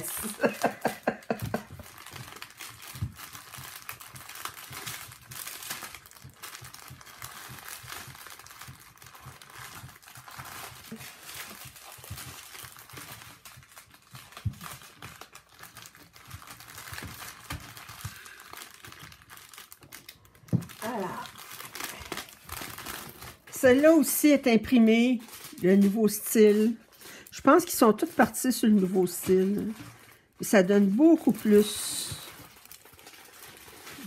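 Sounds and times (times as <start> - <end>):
plastic bags crinkling: 0.0 - 34.0.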